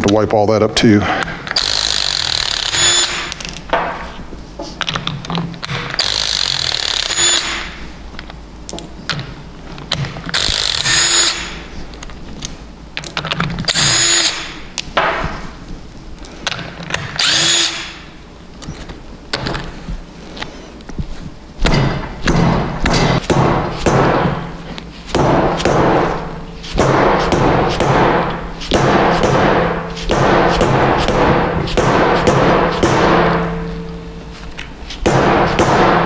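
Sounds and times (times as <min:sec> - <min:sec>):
impact wrench hammering bolts: 0:01.2 - 0:04.1, 0:04.8 - 0:15.4, 0:16.4 - 0:19.7, 0:21.6 - 0:36.0.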